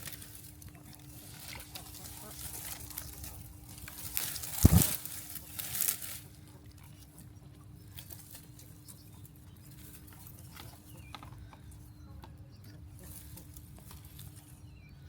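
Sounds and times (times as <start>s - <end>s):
faint farm animal calls: 0.0s - 15.0s
steady low hum: 0.0s - 15.0s.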